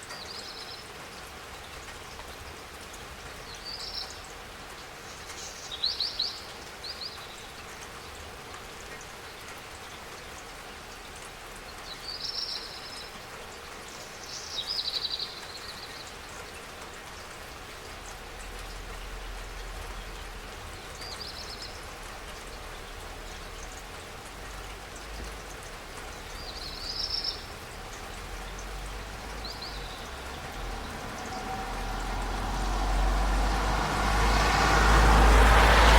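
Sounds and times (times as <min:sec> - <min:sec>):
steady rainfall: 0:00.0 - 0:35.9.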